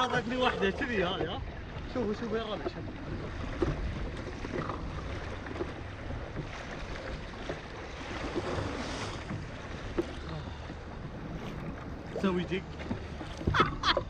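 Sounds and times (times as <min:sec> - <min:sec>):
waves splashing: 0:00.0 - 0:14.0.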